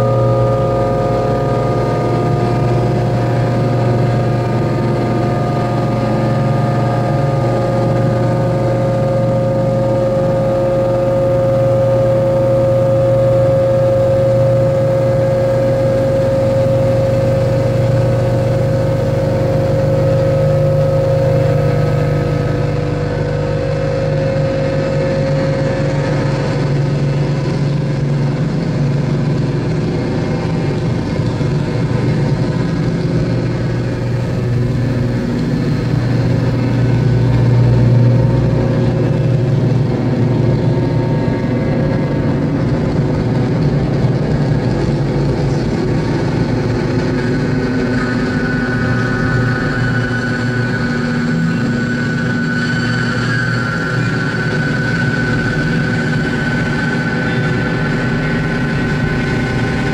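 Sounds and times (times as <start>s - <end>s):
electronic drone tones: 0.0s - 59.9s
low hum: 0.0s - 59.9s.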